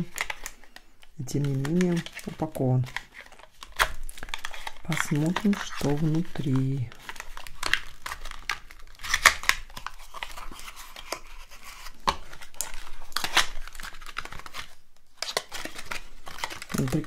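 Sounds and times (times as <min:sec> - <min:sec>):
cardboard rustling and tearing: 0:00.0 - 0:17.0.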